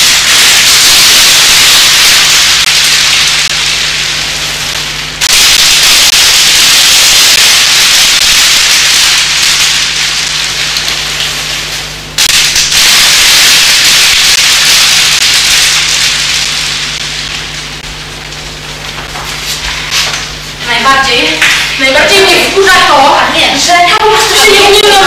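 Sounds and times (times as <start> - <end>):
loud static hiss: 0.0 - 25.0.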